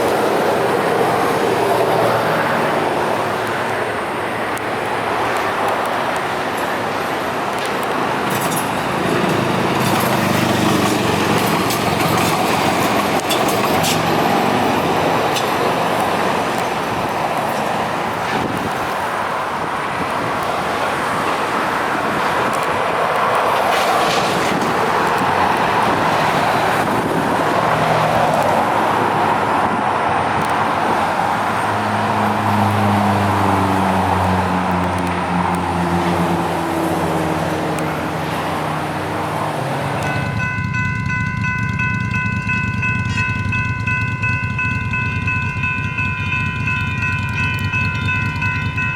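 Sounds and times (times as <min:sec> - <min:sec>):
passing vehicles rumble: 0:00.0 - 0:48.9.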